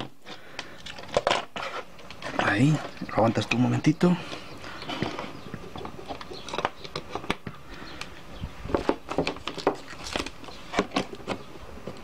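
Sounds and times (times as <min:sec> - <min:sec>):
clicks and rustles of wires: 0:00.0 - 0:12.0.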